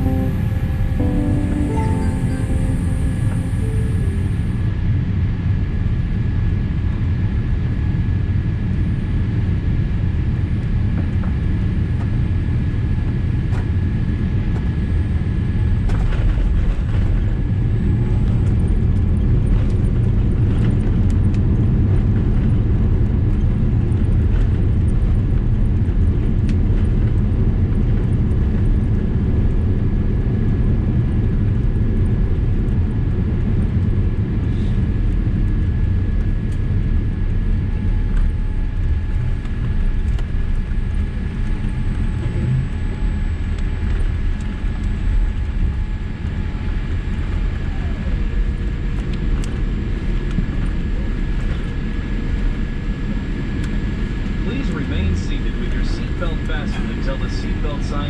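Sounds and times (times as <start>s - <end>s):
jet engines and wheels rumbling: 0.0s - 5.0s, 6.5s - 58.0s.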